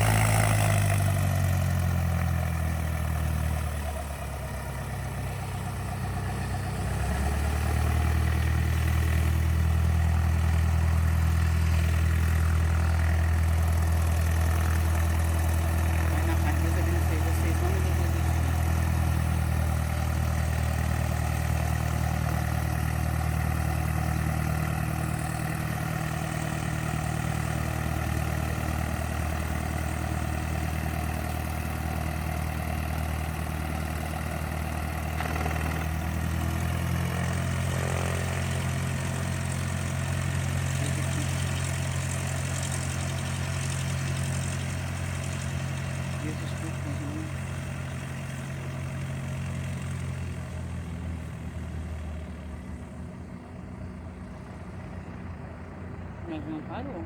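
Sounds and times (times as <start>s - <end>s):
propeller plane engine running: 0.0s - 57.0s.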